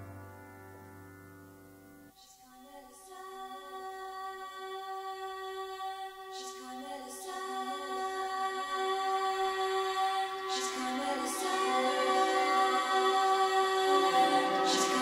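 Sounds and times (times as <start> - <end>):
layered singing voices: 2.2 - 15.0.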